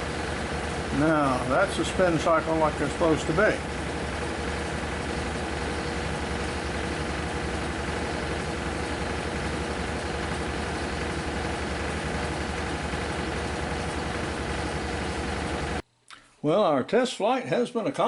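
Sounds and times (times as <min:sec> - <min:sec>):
washing machine spinning: 0:00.0 - 0:15.8.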